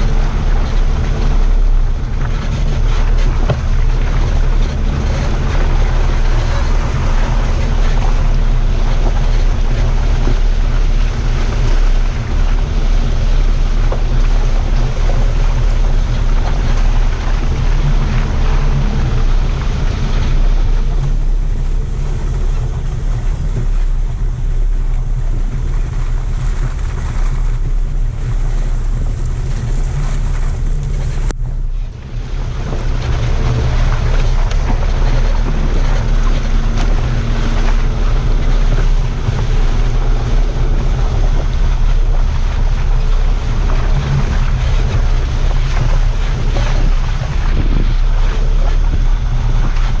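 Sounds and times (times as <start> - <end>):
vehicle engine and tyres rumbling: 0.0 - 50.0
wind buffeting microphone: 0.0 - 50.0.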